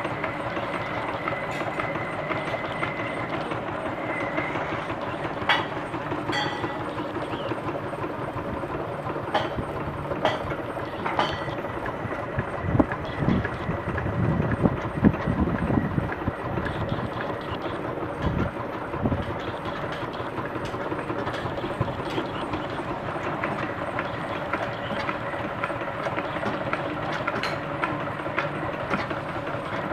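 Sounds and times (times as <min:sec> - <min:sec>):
traction engine running: 0:00.0 - 0:29.9.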